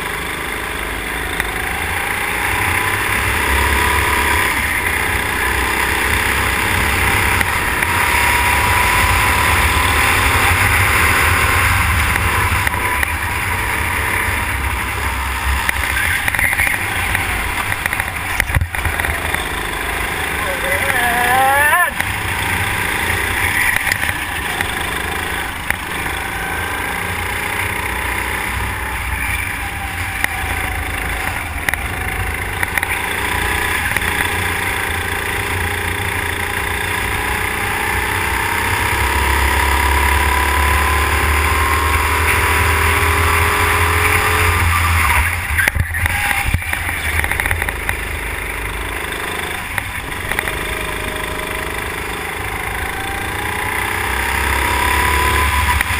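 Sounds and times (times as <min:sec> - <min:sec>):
go-kart engine: 0:00.0 - 0:55.9.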